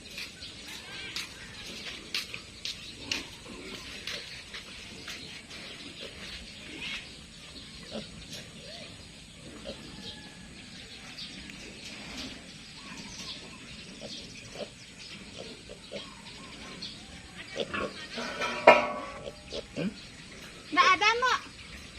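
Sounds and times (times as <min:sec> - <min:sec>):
pigs squeaking and grunting: 0:00.0 - 0:20.7.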